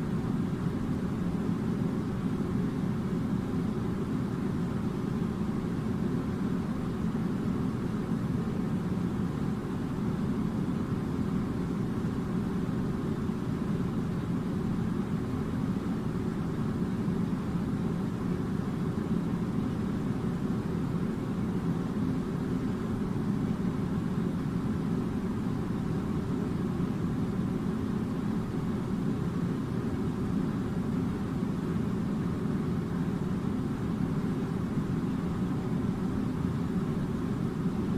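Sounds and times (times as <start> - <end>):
air conditioner running: 0.0 - 37.9.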